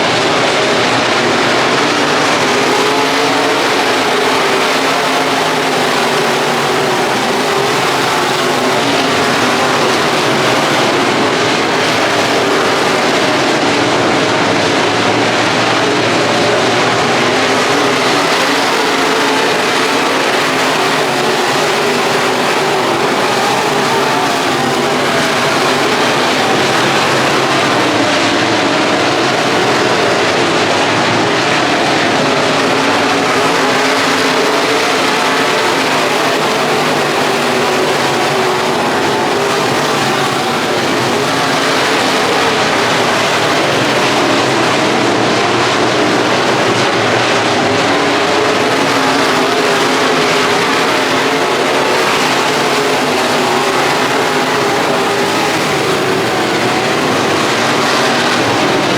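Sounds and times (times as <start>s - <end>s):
race car engine at high revs: 0.0s - 58.9s
road and wind noise: 0.0s - 58.9s.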